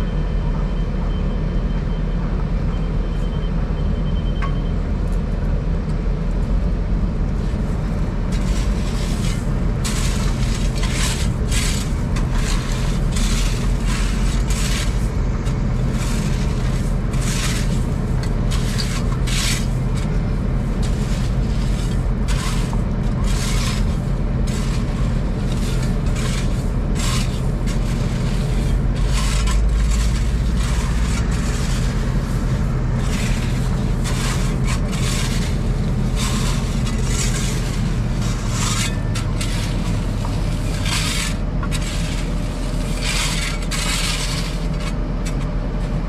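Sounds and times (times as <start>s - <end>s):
diesel engine running: 0.0s - 46.0s
short scraping sounds: 8.3s - 20.1s, 20.7s - 45.9s.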